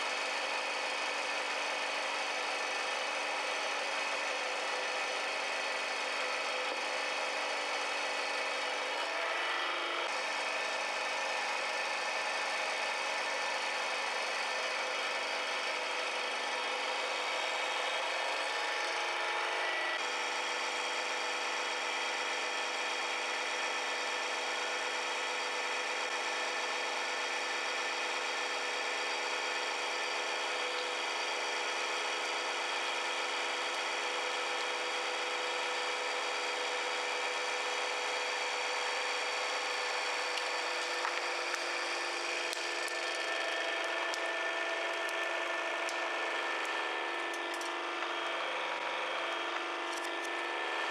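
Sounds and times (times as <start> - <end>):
hydraulic press motor hum: 0.0 - 50.9.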